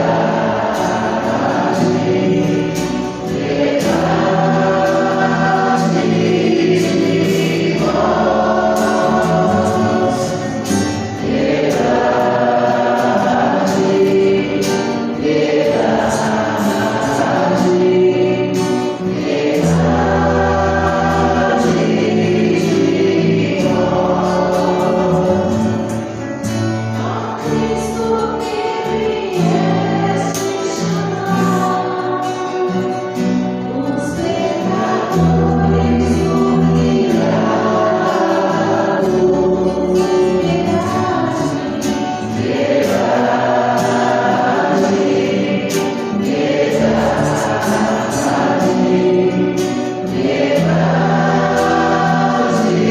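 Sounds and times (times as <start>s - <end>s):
choir singing gospel: 0.0s - 52.9s
musical backing: 0.0s - 52.9s.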